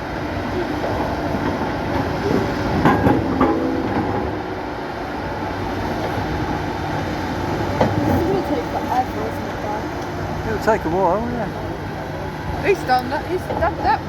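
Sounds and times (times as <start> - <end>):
diesel engine running: 0.0 - 14.0
tracks and bucket clanking: 0.0 - 14.0.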